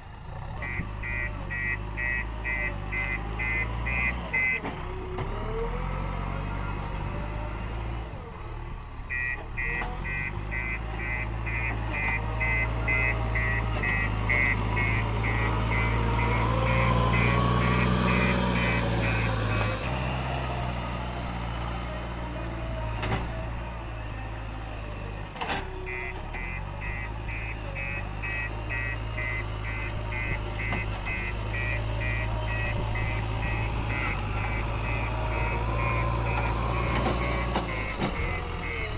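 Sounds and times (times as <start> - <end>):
diesel engine running: 0.0 - 38.9
reversing alarm beeping: 0.4 - 7.9, 9.0 - 21.1, 22.3 - 38.9.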